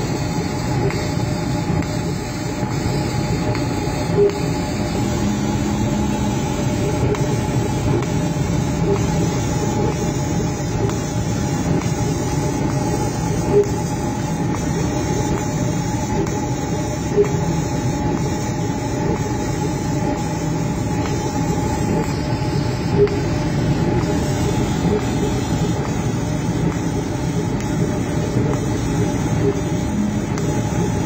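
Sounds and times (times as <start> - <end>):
faint constant whine: 0.0 - 31.0
laser cutter humming: 0.0 - 31.0.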